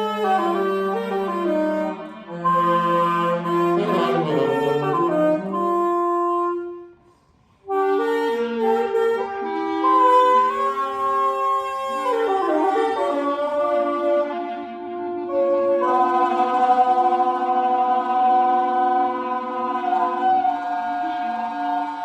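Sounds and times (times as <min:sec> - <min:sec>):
clarinet and saxophones jazz: 0:00.0 - 0:22.0.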